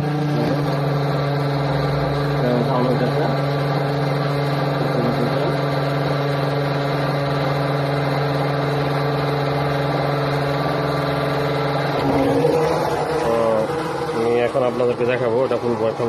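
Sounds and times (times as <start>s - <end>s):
small fan motor humming: 0.0s - 16.0s.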